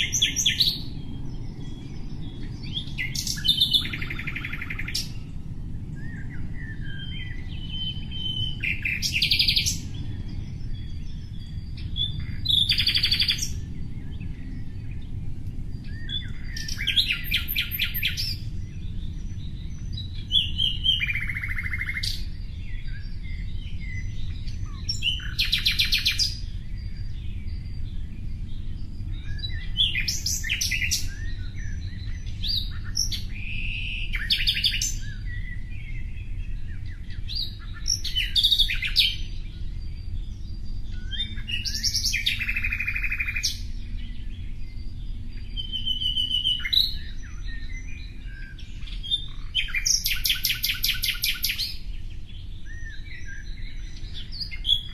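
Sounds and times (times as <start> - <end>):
songbird chirping and trilling: 0.0 - 54.9
steady low rumble: 0.0 - 54.9.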